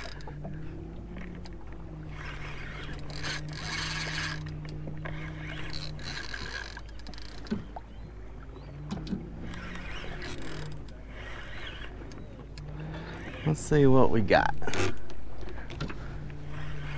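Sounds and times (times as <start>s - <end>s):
fishing reel cranking: 0.0s - 7.7s, 8.8s - 16.9s
steady low hum: 0.0s - 16.9s.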